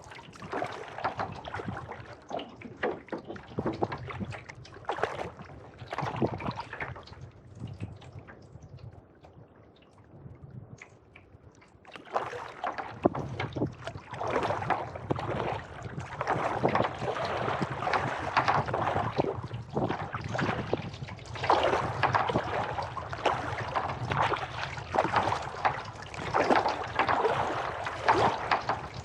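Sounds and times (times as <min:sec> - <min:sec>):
paddle strokes splashing: 0:00.0 - 0:08.4, 0:10.8 - 0:29.0
water dripping off paddle: 0:00.0 - 0:10.0, 0:10.7 - 0:29.0.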